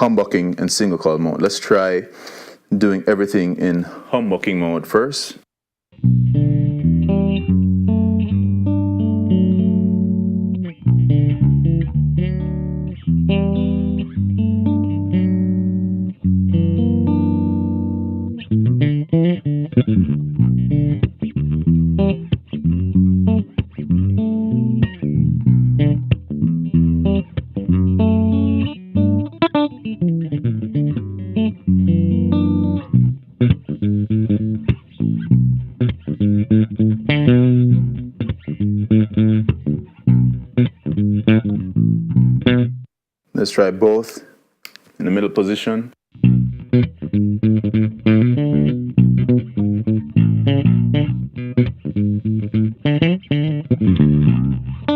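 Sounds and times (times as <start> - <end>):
electric bass plucked notes: 6.0 - 42.9, 46.1 - 54.9.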